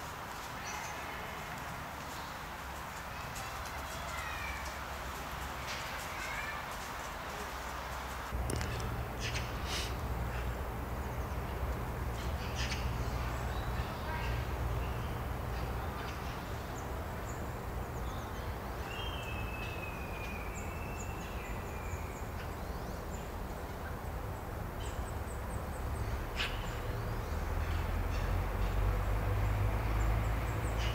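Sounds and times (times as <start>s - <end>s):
small birds chirping faintly: 0.0s - 30.9s.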